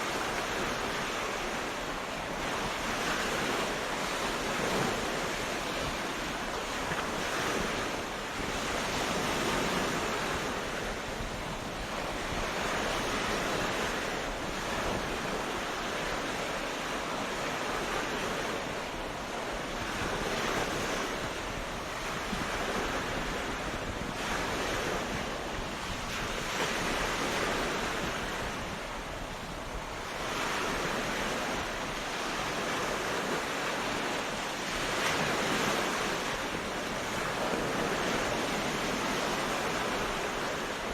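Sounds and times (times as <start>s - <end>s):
ocean waves washing: 0.0s - 40.9s.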